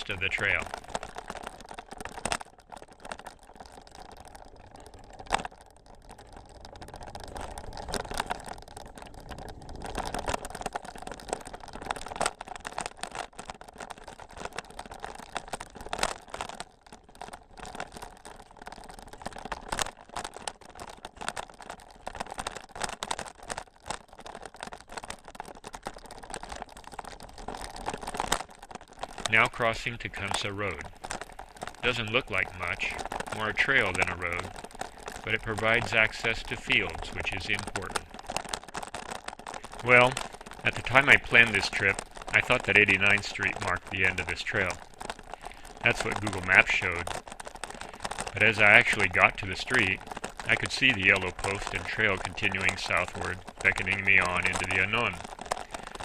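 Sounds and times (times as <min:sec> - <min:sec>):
bicycle clicks and rattles: 0:00.0 - 0:56.0
bicycle tyres crunching on dirt: 0:00.0 - 0:56.0.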